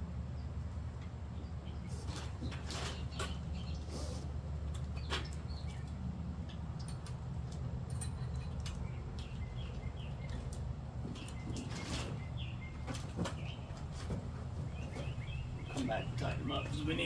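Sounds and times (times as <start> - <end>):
small birds chirping: 1.3 - 7.0, 8.2 - 17.0.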